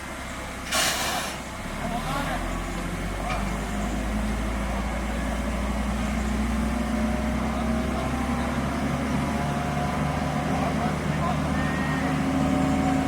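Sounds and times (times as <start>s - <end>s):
heavy diesel machinery engine: 0.0s - 13.0s.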